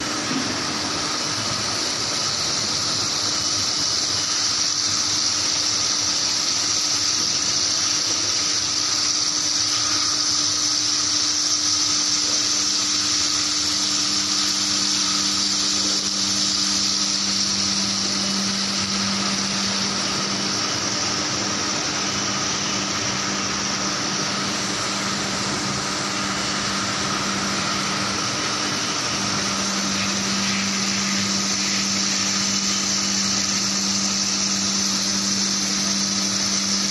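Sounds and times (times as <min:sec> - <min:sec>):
loud steady high hiss: 0:00.0 - 0:36.9.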